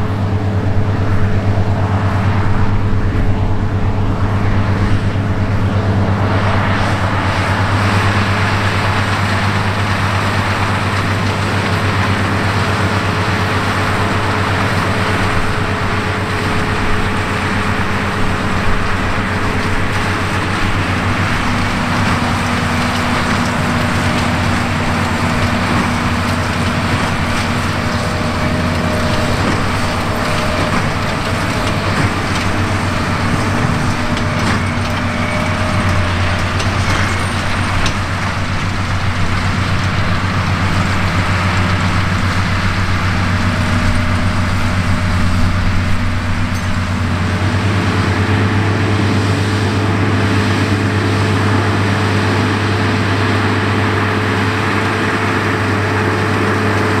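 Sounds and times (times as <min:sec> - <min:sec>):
hay machinery working: 0:00.0 - 0:57.0
tractor diesel engines running: 0:00.0 - 0:57.0.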